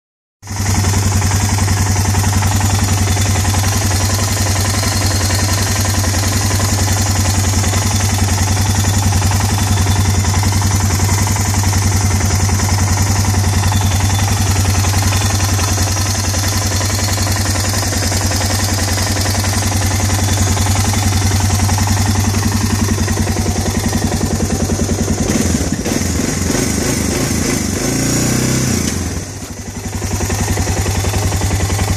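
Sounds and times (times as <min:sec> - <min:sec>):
engine idling with ticking: 0:00.4 - 0:31.9.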